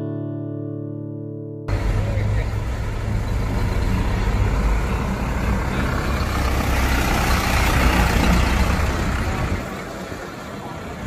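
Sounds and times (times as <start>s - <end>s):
diesel truck driving past: 1.7s - 11.0s.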